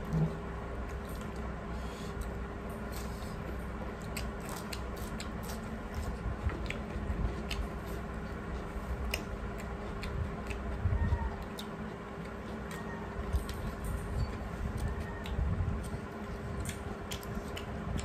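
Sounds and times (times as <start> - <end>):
people chewing cucumber: 0.0 - 18.0.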